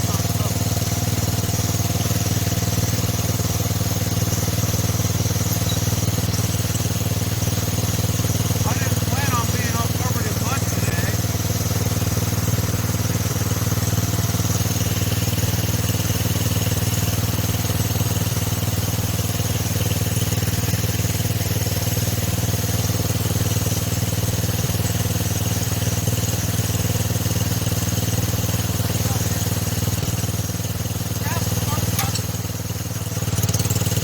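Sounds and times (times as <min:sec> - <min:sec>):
small tractor engine running: 0:00.0 - 0:34.0.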